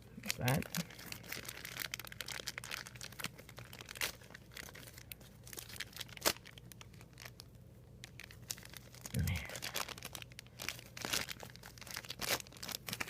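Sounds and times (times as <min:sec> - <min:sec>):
packaging crinkling and crackling: 0:00.2 - 0:13.0.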